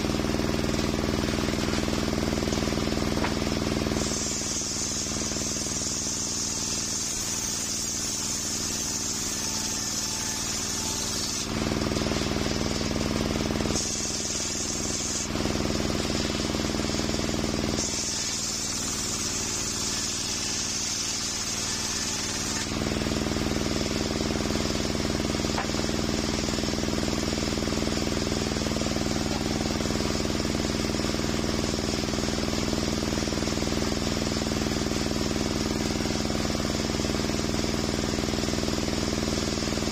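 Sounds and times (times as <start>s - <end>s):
saw cutting hiss: 0.0s - 39.6s
circular saw running: 0.0s - 39.9s.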